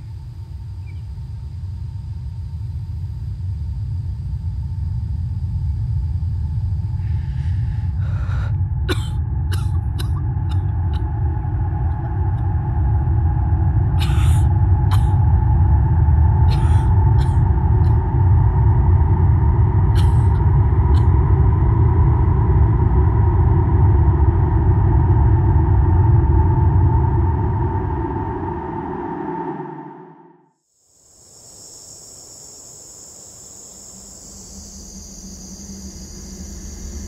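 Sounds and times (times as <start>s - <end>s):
low rumble drone: 0.0s - 30.5s, 34.0s - 37.0s.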